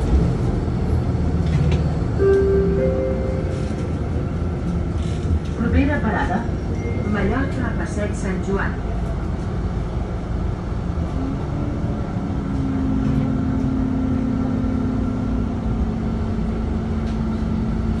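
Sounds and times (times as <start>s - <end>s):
bus interior rumble: 0.0s - 18.0s.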